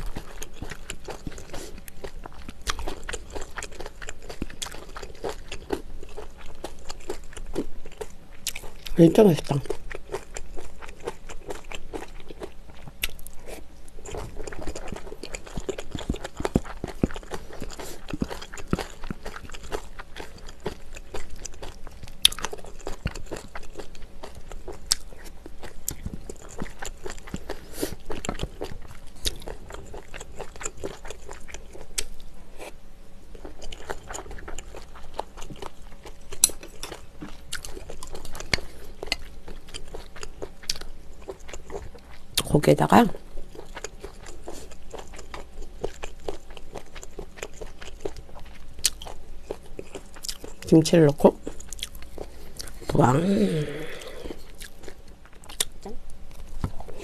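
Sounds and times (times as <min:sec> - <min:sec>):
person chewing food: 0:00.0 - 0:50.7, 0:51.3 - 0:57.0.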